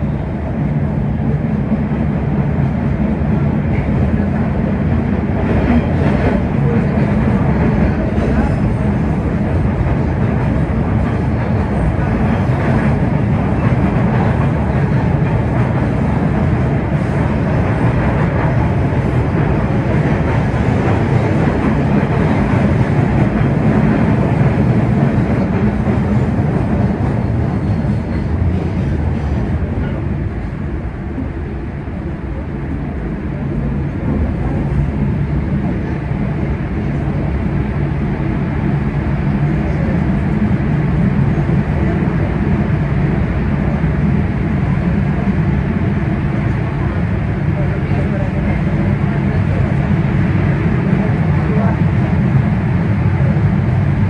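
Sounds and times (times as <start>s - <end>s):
subway wheels rumbling on rail: 0.0s - 54.0s.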